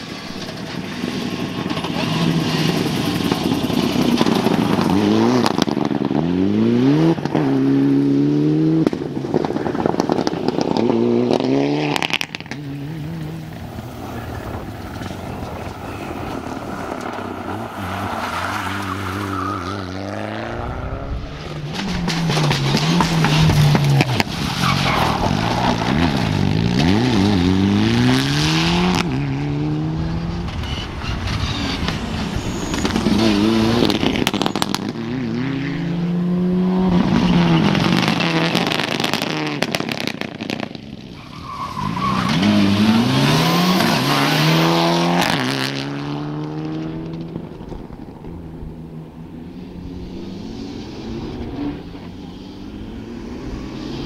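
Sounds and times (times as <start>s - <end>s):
rally car engines revving hard: 0.8s - 40.8s, 41.4s - 54.0s.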